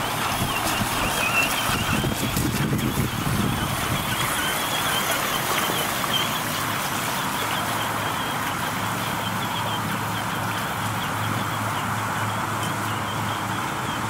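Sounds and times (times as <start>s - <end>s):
water splashing and flowing: 0.0s - 14.0s.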